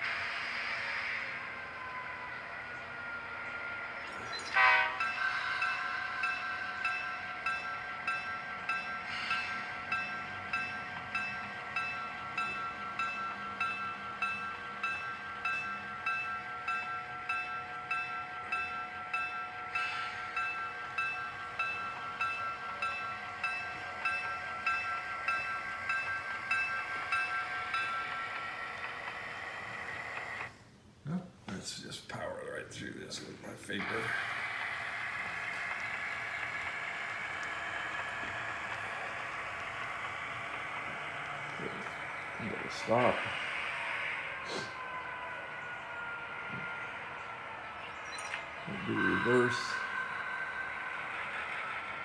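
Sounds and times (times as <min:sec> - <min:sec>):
locomotive bell ringing: 0:00.0 - 0:30.5, 0:33.6 - 0:52.0.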